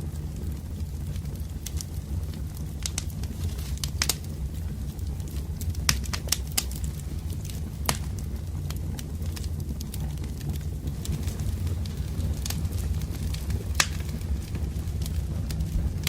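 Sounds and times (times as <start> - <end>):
low rumble: 0.0 - 16.0
wood fire crackling: 0.0 - 16.0.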